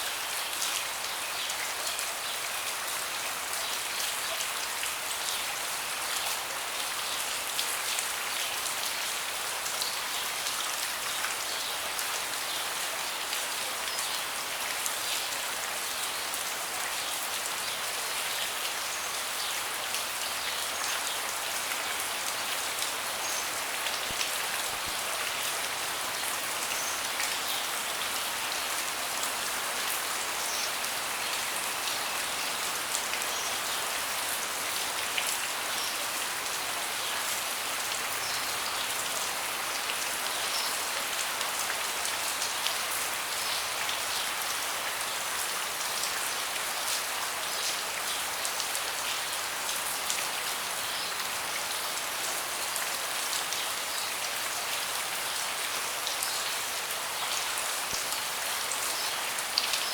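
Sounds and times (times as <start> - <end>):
rain falling on a deck: 0.0 - 59.9.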